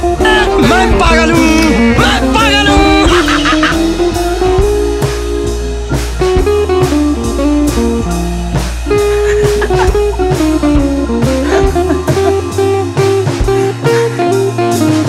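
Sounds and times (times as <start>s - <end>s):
bluesy electric guitar melody: 0.0s - 15.0s
drum kit beat: 0.0s - 15.0s.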